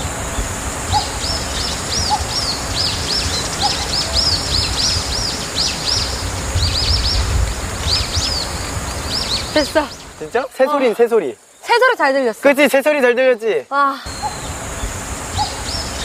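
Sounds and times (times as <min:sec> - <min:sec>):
birds chirping: 0:00.0 - 0:12.5, 0:13.4 - 0:16.0.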